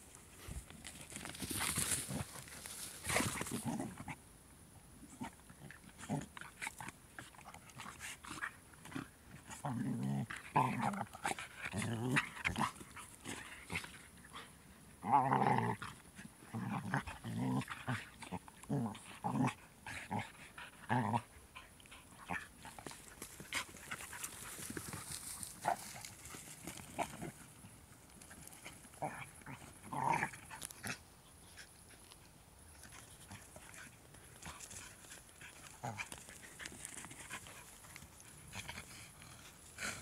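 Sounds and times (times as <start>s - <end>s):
dogs growling while play-fighting: 1.4s - 4.2s, 5.1s - 31.7s, 32.8s - 40.0s.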